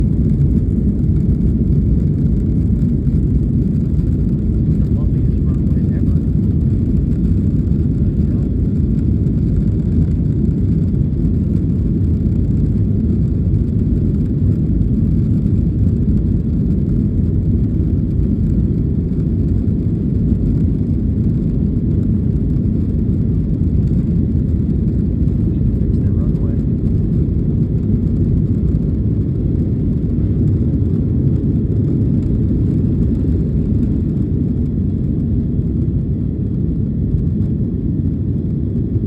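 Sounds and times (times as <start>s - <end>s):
jet engines low rumble: 0.0s - 39.0s.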